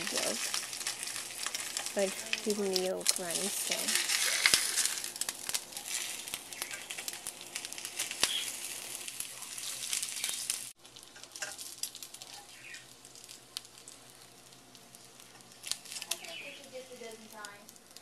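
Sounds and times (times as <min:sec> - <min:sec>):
egg sizzling in oil: 0:00.0 - 0:18.0.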